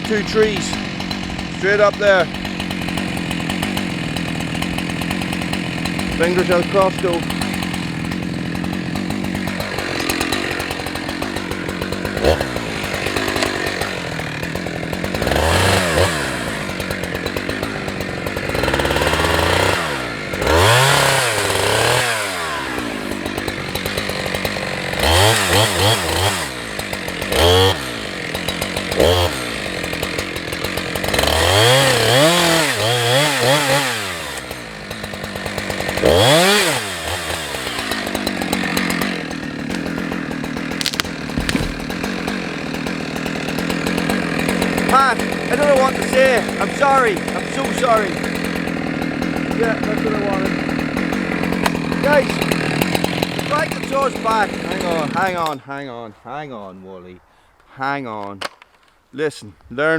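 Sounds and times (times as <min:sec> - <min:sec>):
chainsaw idling and revving: 0:00.0 - 0:55.8.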